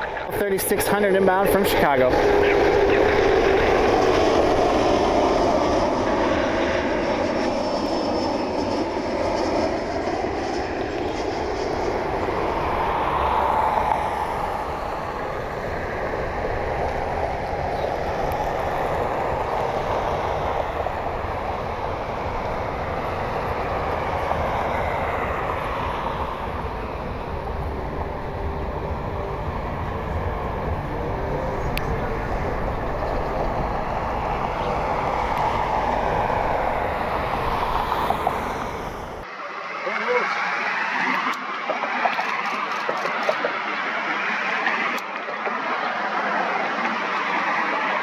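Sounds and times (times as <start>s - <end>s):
jet airliner flying past: 0.0s - 48.0s.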